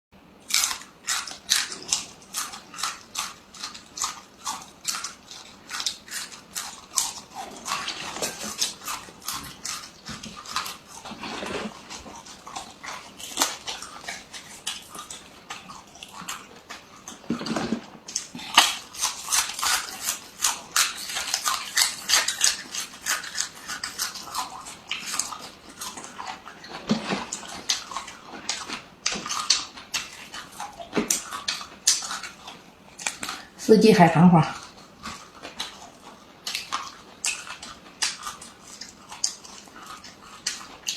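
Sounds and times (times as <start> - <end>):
crunchy chewing: 0.4 - 33.7, 34.5 - 40.9.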